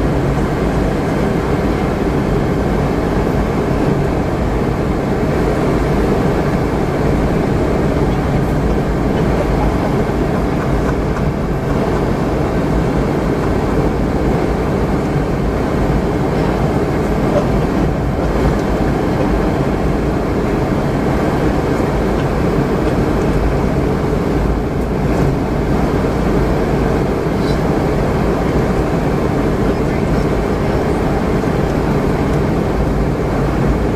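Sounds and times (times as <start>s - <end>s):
airliner cabin engine rumble: 0.0s - 33.9s.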